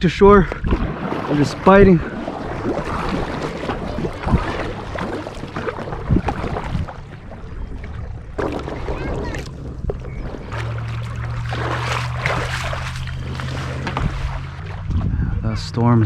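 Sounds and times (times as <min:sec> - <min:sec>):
water splashing against kayak: 0:00.0 - 0:15.4
wind rumble on microphone: 0:00.0 - 0:16.0.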